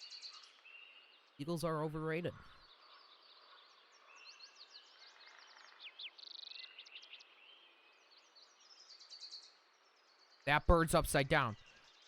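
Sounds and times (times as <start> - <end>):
faint songbirds chirping: 0.0 - 12.0.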